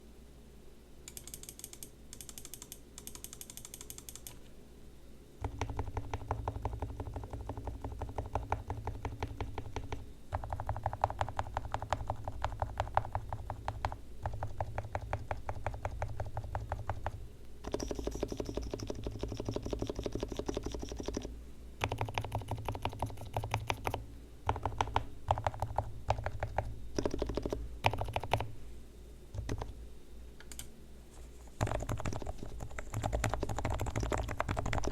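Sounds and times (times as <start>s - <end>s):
fast typing on keyboard: 1.1s - 4.4s, 5.4s - 28.5s, 29.4s - 29.8s, 31.5s - 34.9s.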